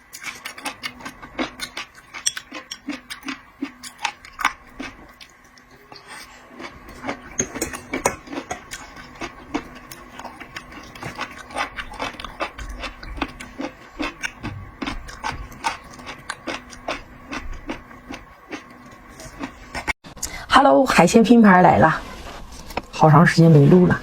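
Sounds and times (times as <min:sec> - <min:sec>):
chewing and cracking shells: 0:00.0 - 0:20.0
faint steady hum: 0:00.0 - 0:24.0.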